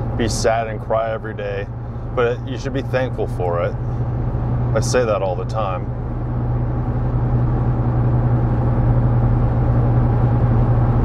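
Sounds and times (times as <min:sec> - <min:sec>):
car engine drone: 0:00.0 - 0:11.0
tyre road noise: 0:00.0 - 0:11.0.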